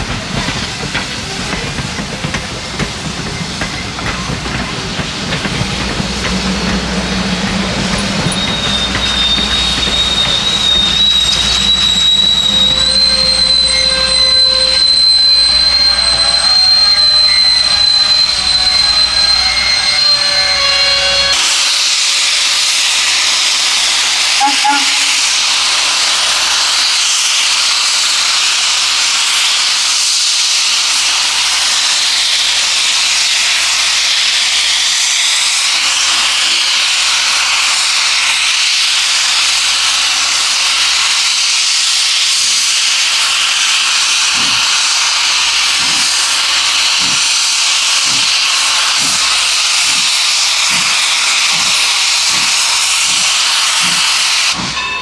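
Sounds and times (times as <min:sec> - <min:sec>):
steam hissing: 0:00.0 - 0:55.0
steam locomotive exhaust chuffs: 0:00.0 - 0:55.0.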